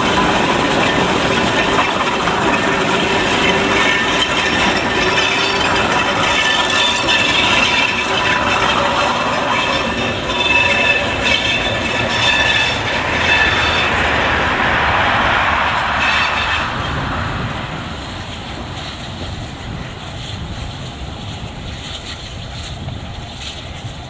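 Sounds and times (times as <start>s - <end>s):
steam train running past: 0.0s - 24.0s
train wheels squealing: 0.0s - 24.0s.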